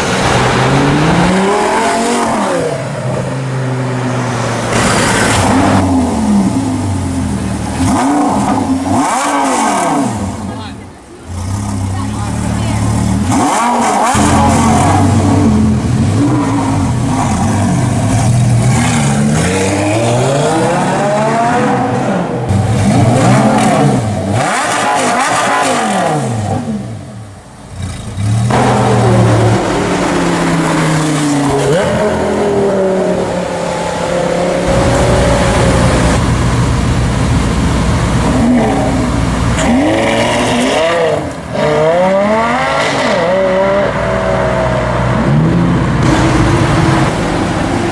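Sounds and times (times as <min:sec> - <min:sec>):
sports car engine revving: 0:00.1 - 0:47.9.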